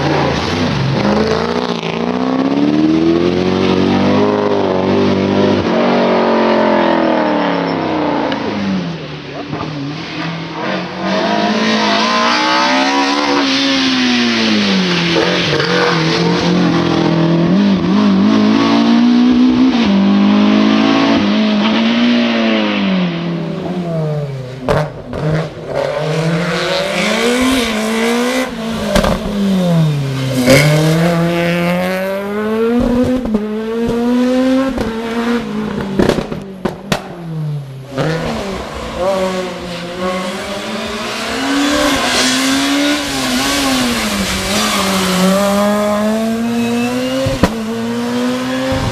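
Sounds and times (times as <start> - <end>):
racing car engines revving: 0.0 - 48.9.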